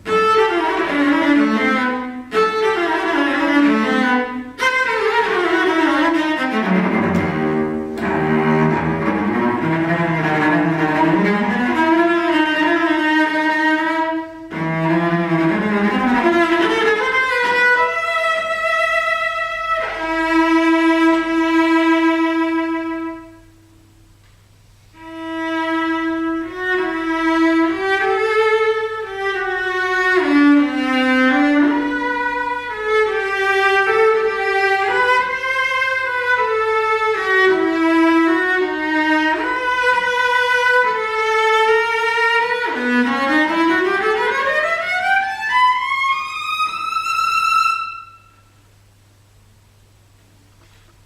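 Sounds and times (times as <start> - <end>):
cello bowed slow melody: 0.0 - 23.5, 25.0 - 48.4.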